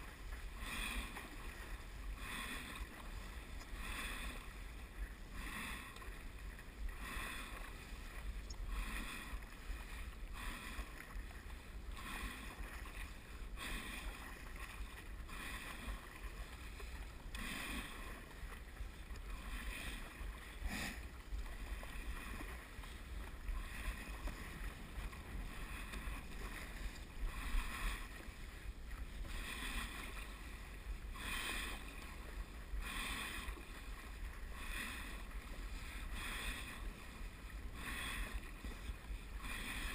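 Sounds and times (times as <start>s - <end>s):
paddle splashing in water: 0.0s - 39.9s.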